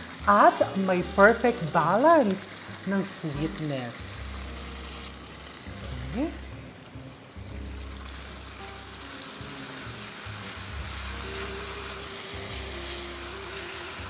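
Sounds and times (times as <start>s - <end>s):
meat sizzling in sauce: 0.0s - 14.0s
soft background music: 0.0s - 14.0s.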